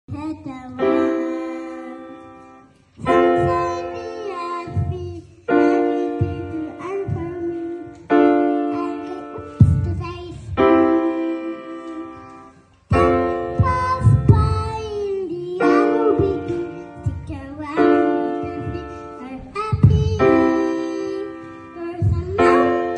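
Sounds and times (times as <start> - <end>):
grand piano chords: 0.1 - 22.9.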